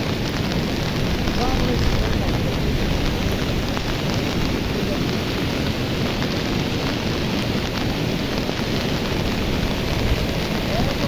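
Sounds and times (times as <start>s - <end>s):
river in flood rushing: 0.0s - 11.0s.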